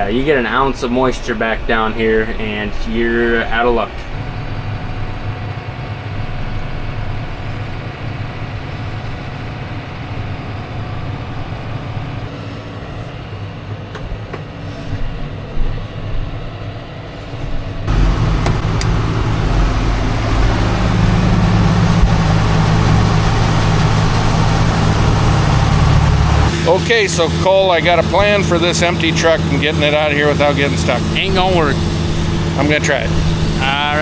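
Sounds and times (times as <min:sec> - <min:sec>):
farm vehicle engine running: 0:03.2 - 0:34.0.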